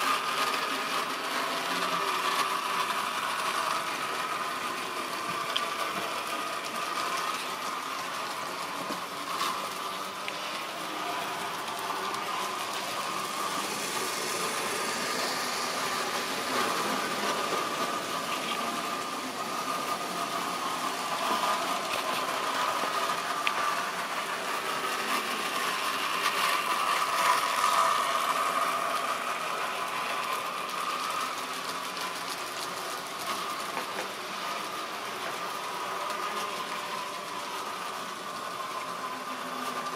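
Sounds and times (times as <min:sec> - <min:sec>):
model train motor whining: 0:00.0 - 0:39.9
wheels clicking on rails: 0:00.0 - 0:39.9.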